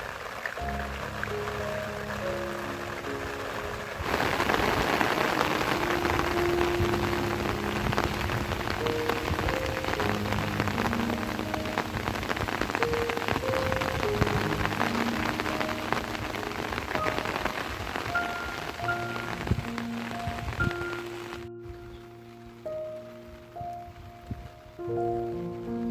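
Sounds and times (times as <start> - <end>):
steady rain falling: 0.0 - 25.9
soft melodic background music: 0.5 - 25.9.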